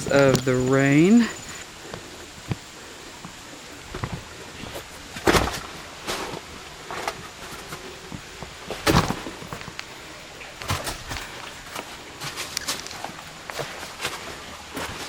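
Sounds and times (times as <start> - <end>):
footsteps on rocky trail: 0.0 - 15.0.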